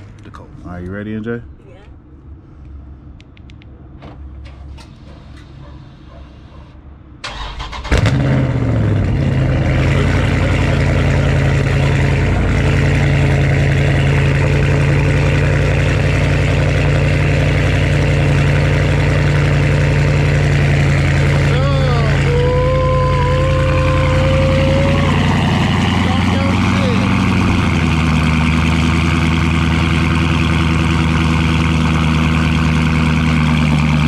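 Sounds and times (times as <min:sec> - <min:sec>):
car engine starting and idling: 0:03.2 - 0:34.0.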